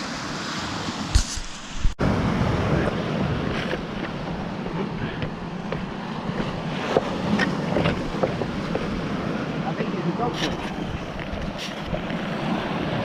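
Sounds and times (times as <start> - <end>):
surf breaking on shore: 0.0 - 13.0
wind buffeting microphone: 1.1 - 13.0.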